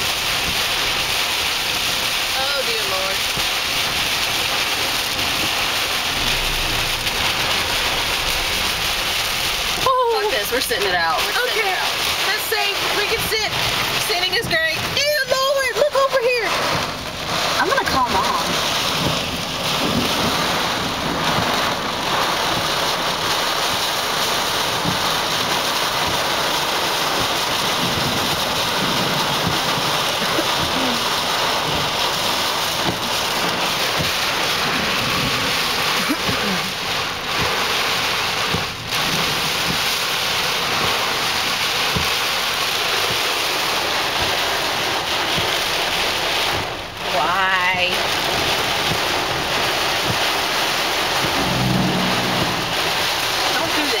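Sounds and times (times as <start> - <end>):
heavy rain on car roof: 0.0 - 54.0.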